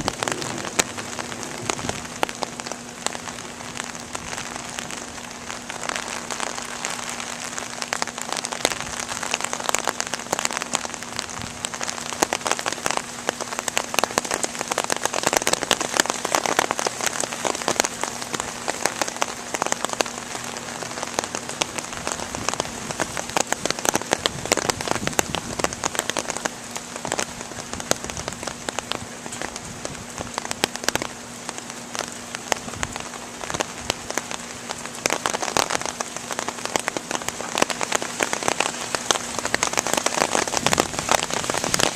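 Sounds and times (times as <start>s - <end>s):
rain falling: 0.0s - 41.9s
raindrops ticking close by: 0.0s - 41.9s.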